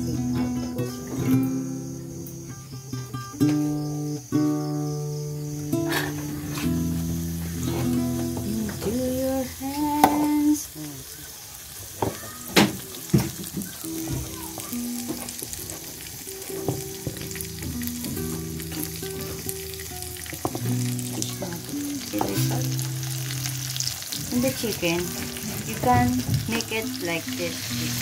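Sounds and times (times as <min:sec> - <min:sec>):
faint background music: 0:00.0 - 0:28.0
fish sizzling in hot oil: 0:04.8 - 0:28.0.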